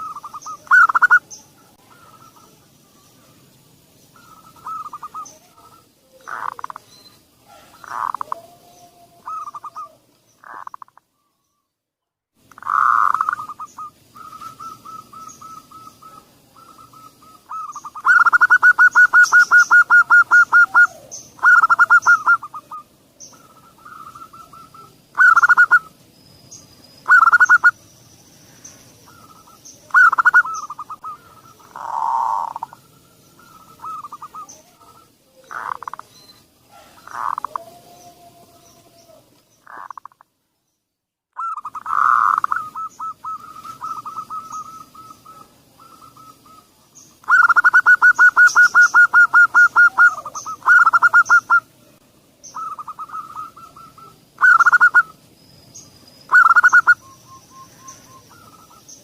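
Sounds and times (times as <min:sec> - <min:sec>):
doves cooing and trilling: 0:00.0 - 0:11.4, 0:12.5 - 0:40.2, 0:41.4 - 0:59.0.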